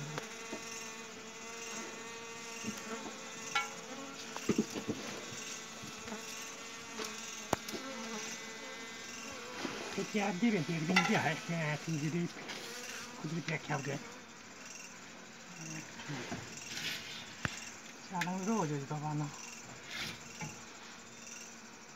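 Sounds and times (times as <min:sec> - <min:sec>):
bees buzzing: 0:00.0 - 0:21.9.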